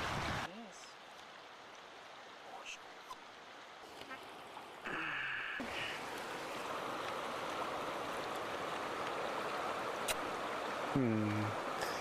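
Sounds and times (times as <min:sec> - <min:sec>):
flowing stream water: 0:00.0 - 0:12.0.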